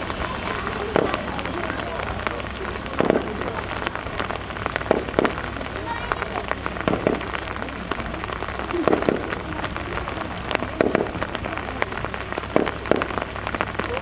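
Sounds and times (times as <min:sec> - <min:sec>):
faint voices: 0:00.0 - 0:14.0
raindrops ticking on surface: 0:00.0 - 0:14.0.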